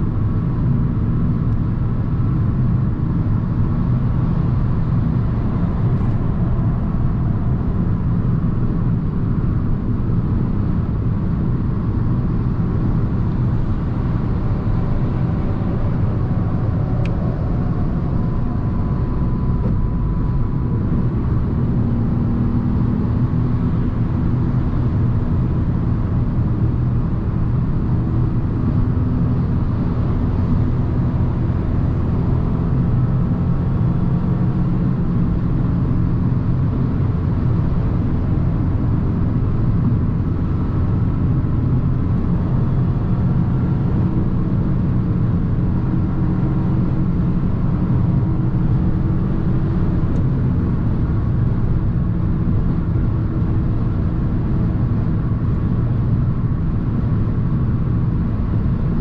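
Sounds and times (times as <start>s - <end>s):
car cruising drone: 0.0s - 59.0s.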